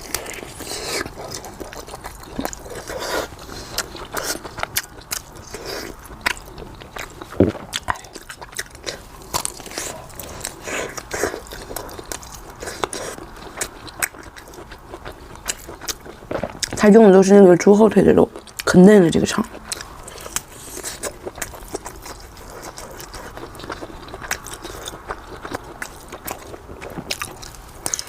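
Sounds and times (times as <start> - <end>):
person chewing and biting: 0.0 - 16.8, 19.5 - 28.0.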